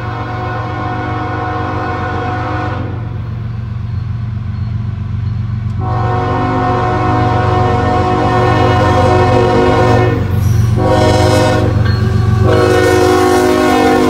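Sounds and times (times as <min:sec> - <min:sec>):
locomotive air horn: 0:00.0 - 0:03.2, 0:05.8 - 0:14.0
low engine rumble: 0:00.0 - 0:14.0.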